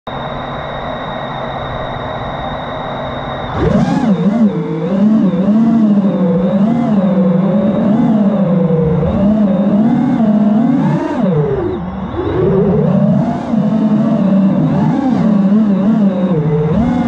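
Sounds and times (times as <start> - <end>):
quadcopter motors whining: 0.2 - 17.0.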